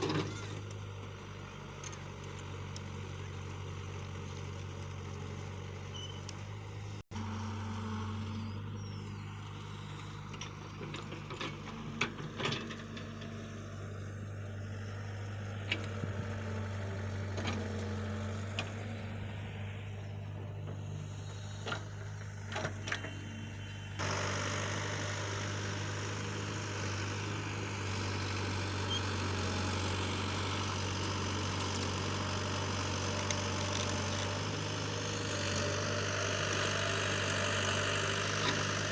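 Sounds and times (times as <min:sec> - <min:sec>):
heavy engine idling: 0:00.0 - 0:38.9.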